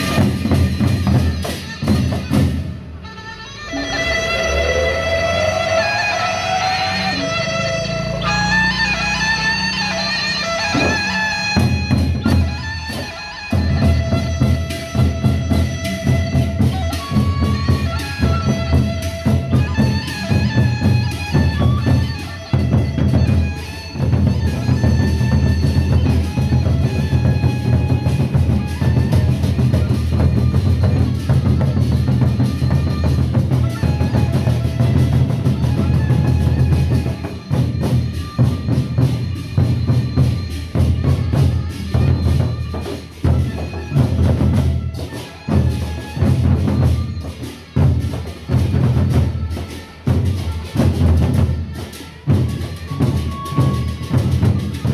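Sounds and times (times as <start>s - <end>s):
barrel drums beaten fast: 0.0s - 2.7s, 10.6s - 54.9s.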